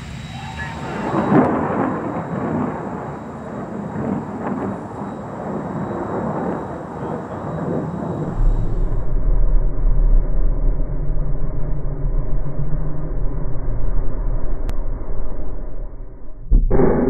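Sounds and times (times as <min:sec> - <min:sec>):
distant rocket motor rumbling: 0:00.0 - 0:17.0.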